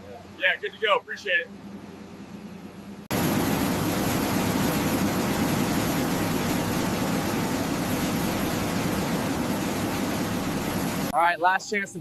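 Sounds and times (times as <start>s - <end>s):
jet engines rumbling: 0.0s - 11.2s.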